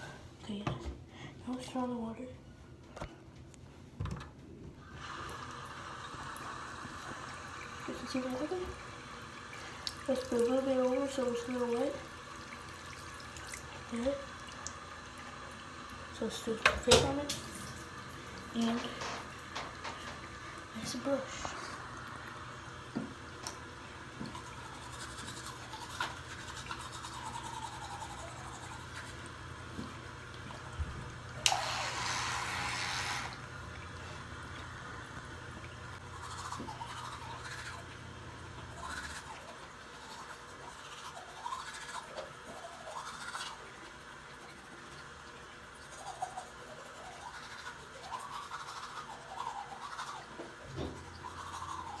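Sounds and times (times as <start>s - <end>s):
toothbrush scrubbing teeth: 5.0s - 22.4s, 23.5s - 30.0s, 31.4s - 33.4s, 35.9s - 52.0s.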